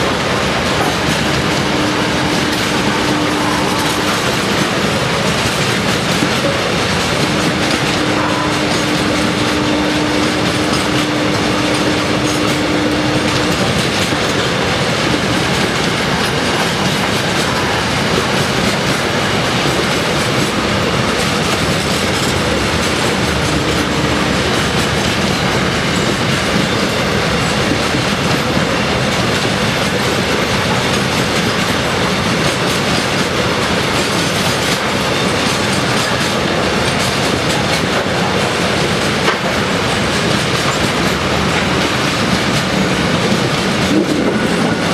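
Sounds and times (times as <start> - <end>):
train wheels clattering: 0.0 - 44.9.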